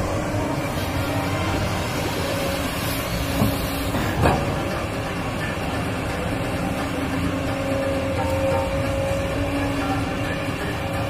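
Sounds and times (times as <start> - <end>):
excavator engine and hydraulics: 0.0 - 11.0.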